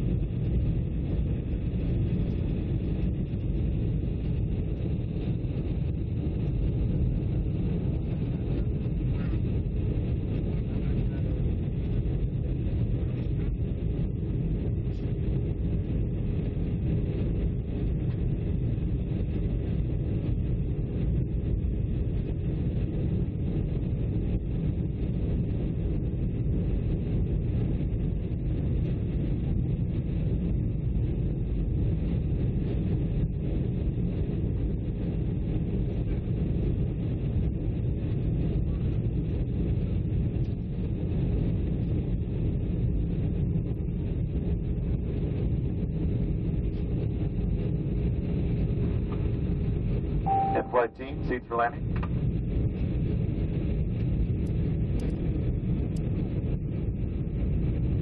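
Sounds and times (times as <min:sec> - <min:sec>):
airliner cabin engine drone: 0:00.0 - 0:58.0.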